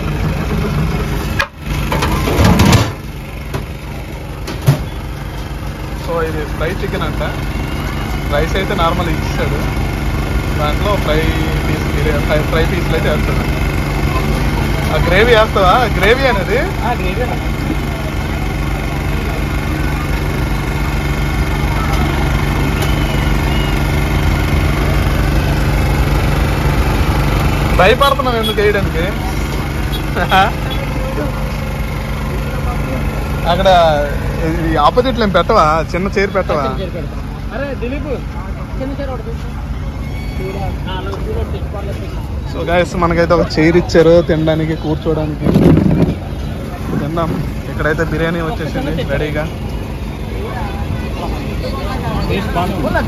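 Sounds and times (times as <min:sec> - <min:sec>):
engine hum: 0:00.0 - 0:53.0.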